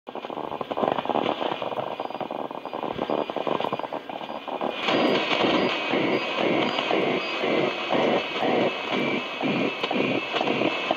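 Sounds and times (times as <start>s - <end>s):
radio static and crackle: 0.1s - 10.9s.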